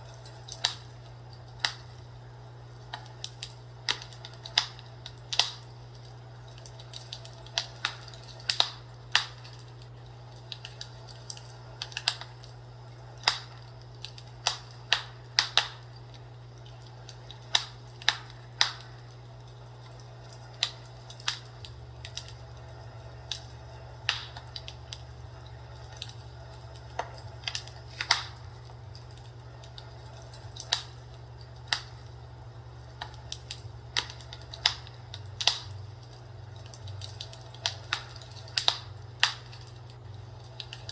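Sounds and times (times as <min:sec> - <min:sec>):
fireplace crackling: 0:00.0 - 0:40.9
steady low hum: 0:00.0 - 0:40.9.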